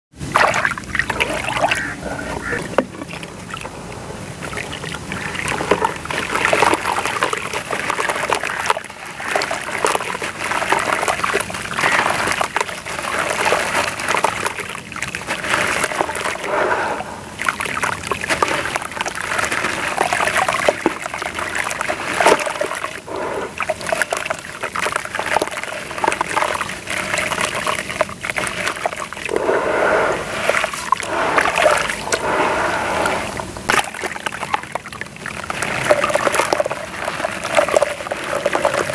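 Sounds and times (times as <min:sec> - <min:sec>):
water splashing and sloshing: 0:00.1 - 0:38.9.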